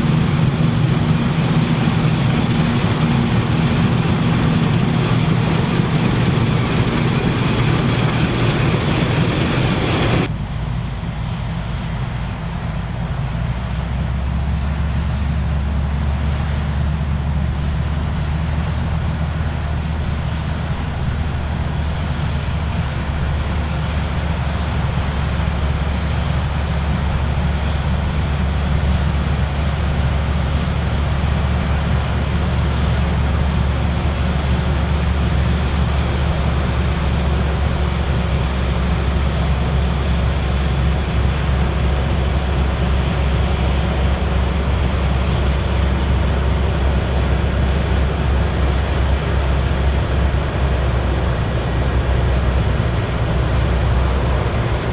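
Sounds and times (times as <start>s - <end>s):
machinery noise: 0.0s - 10.3s, 20.6s - 54.9s
combine harvester engine drone: 0.0s - 54.9s.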